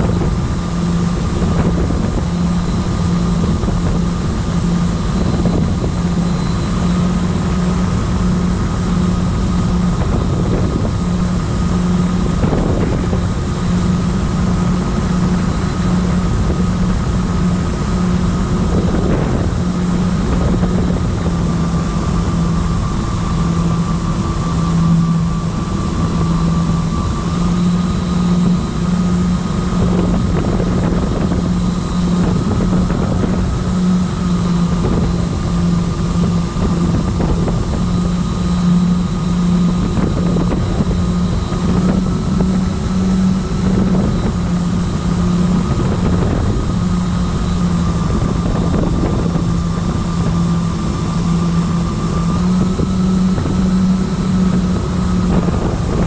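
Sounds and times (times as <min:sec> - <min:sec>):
model plane propeller drone: 0:00.0 - 0:56.0.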